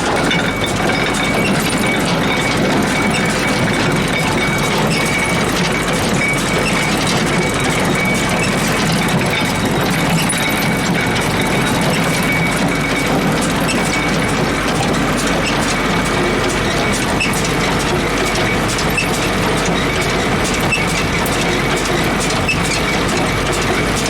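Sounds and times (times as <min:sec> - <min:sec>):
hay baler clattering: 0:00.0 - 0:24.0.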